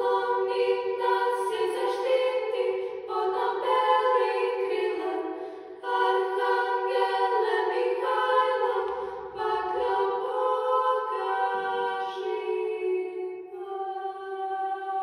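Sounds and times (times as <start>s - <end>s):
children's choir singing a cappella: 0.0s - 15.0s.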